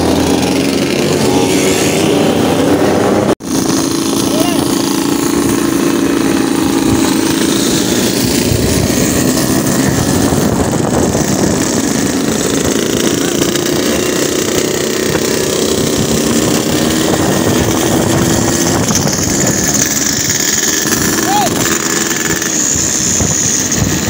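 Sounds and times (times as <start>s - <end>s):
two-stroke motorcycles cruising: 0.0s - 24.0s.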